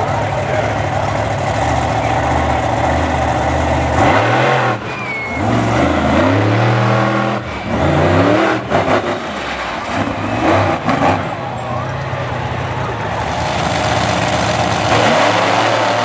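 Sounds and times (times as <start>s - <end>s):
monster truck engines revving: 0.0s - 16.0s.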